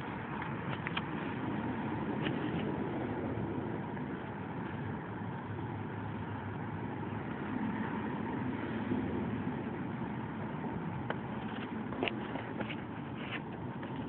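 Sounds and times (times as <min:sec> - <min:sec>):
faint constant hum: 0:00.0 - 0:14.0
low rumbling background noise: 0:00.0 - 0:14.0.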